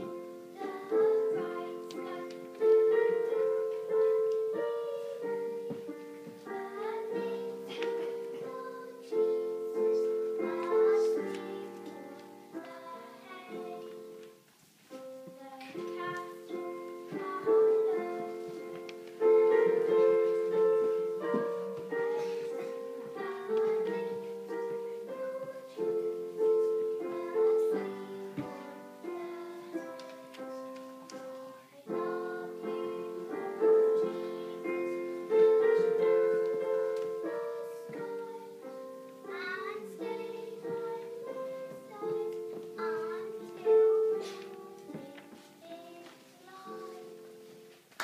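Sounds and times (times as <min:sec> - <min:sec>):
girl singing: 0:00.0 - 0:47.9
piano accompaniment: 0:00.0 - 0:48.0.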